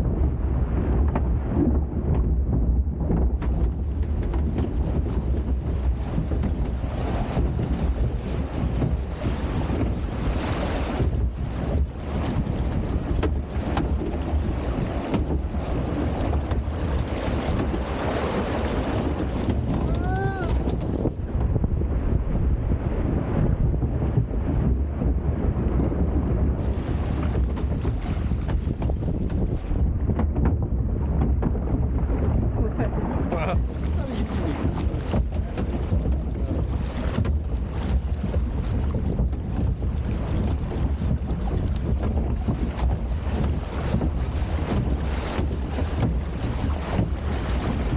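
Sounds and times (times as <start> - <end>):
water rushing and splashing: 0.0 - 47.9
wind rumble on microphone: 0.0 - 47.9.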